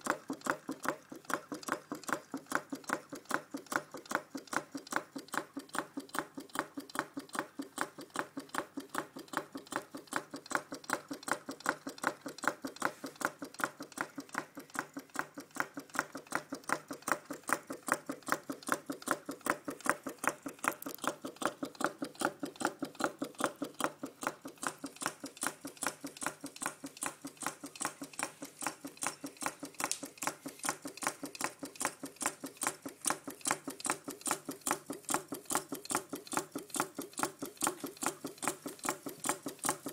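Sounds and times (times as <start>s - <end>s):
stirling engine clicking: 0.0s - 39.9s.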